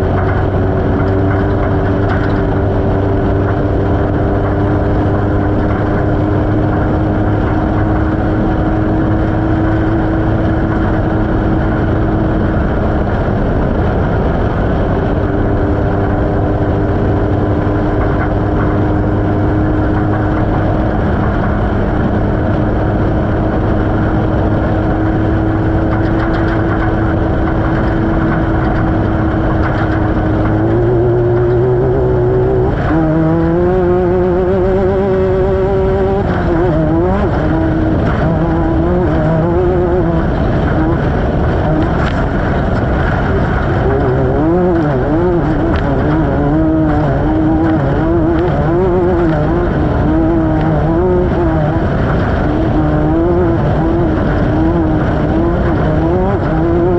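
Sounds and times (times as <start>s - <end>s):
off-road vehicle engine running: 0.0s - 56.9s
rough terrain noise: 0.0s - 56.9s.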